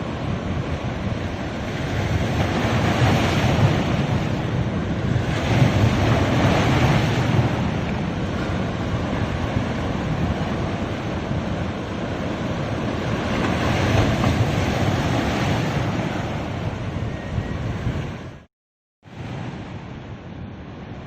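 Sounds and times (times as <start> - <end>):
ocean waves washing onto beach: 0.0 - 18.5, 19.1 - 21.0
wind buffeting microphone: 0.0 - 18.5.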